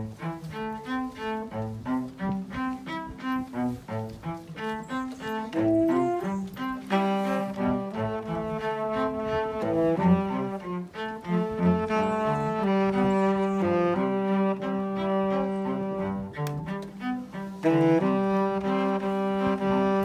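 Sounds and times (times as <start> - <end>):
instrumental music with held notes: 0.0 - 20.0.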